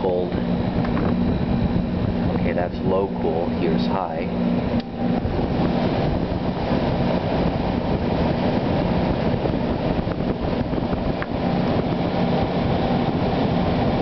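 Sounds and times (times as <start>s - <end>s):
air conditioner blowing air: 0.0s - 14.0s.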